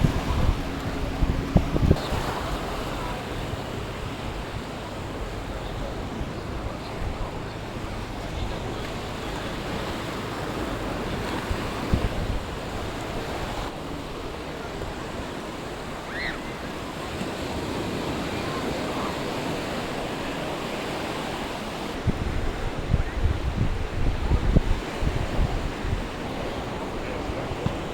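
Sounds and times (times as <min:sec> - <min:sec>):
sea waves washing onto beach: 0:00.0 - 0:27.9
wind buffeting microphone: 0:00.0 - 0:27.9.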